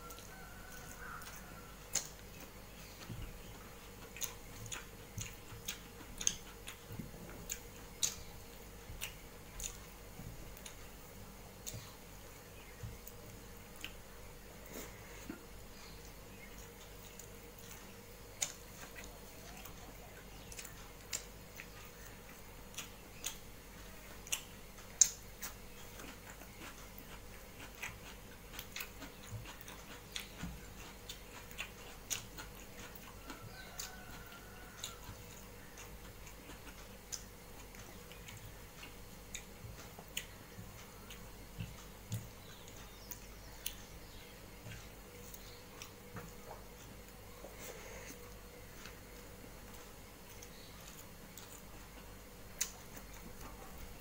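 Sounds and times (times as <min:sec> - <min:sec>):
chewing: 0:00.0 - 0:54.0.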